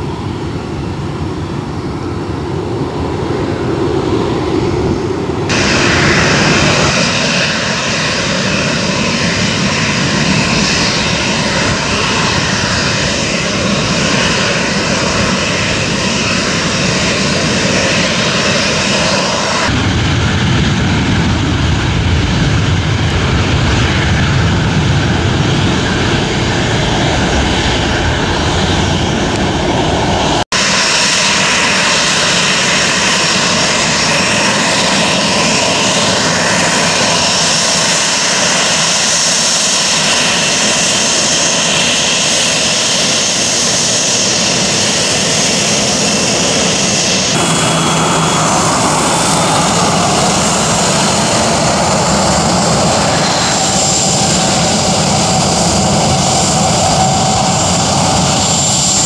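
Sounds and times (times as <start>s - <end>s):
jet engines taxiing with whine: 0.0s - 59.0s.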